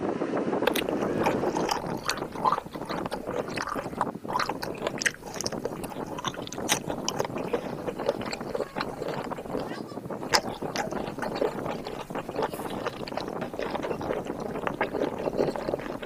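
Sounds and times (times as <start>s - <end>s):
fingers squishing syrup: 0.6s - 16.0s
wet chewing and lip smacks: 0.6s - 16.0s.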